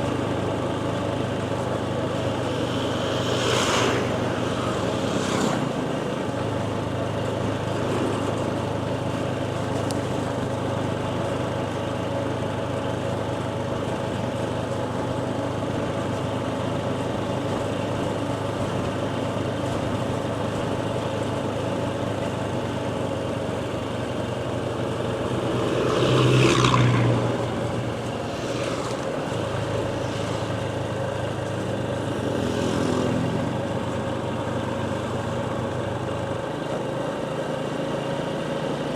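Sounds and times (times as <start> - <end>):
road and wind noise: 0.0 - 38.9.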